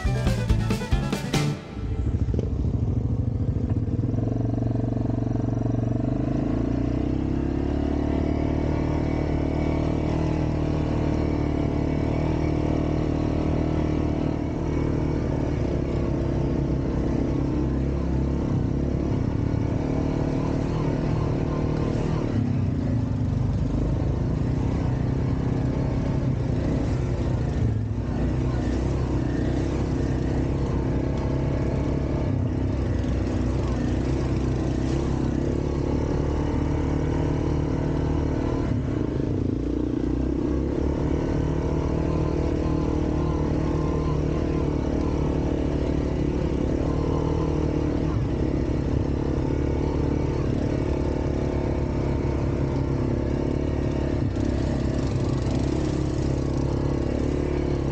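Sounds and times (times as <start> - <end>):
quad bike engine running: 0.0 - 57.9.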